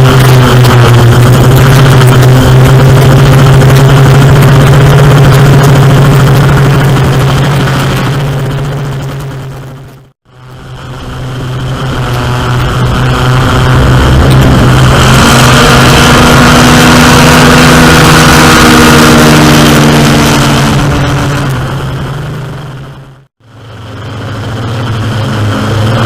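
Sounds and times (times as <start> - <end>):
airboat engine at full power: 0.0 - 26.0.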